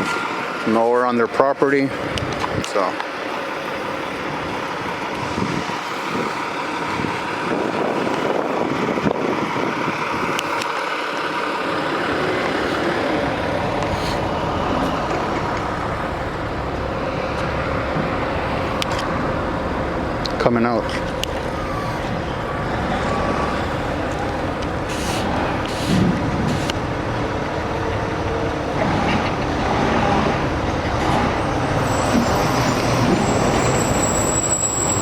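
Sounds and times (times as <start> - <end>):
truck engine running: 3.1 - 35.0.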